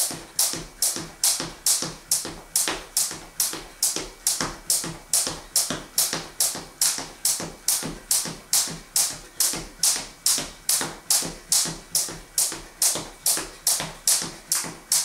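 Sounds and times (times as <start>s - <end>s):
jump rope slapping wooden floor: 0.0s - 15.0s
rope swish: 0.0s - 15.0s.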